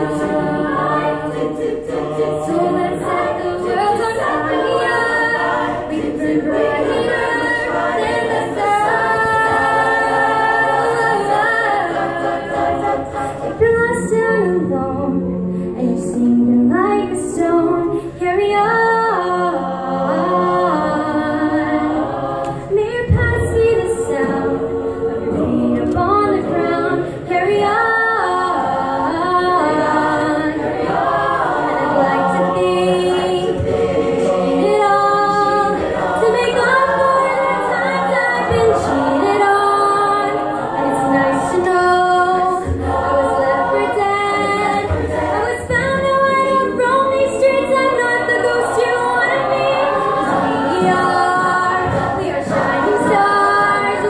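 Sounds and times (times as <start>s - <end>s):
choir singing a cappella: 0.0s - 54.0s.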